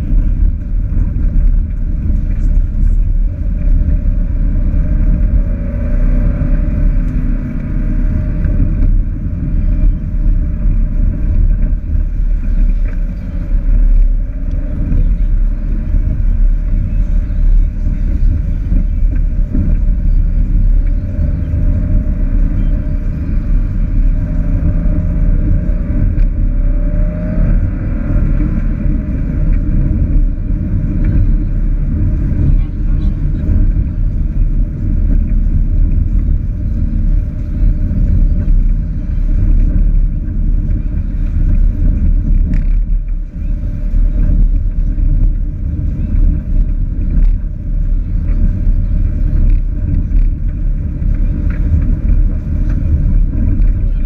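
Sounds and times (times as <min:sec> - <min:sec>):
car engine low rumble: 0:00.0 - 0:54.0.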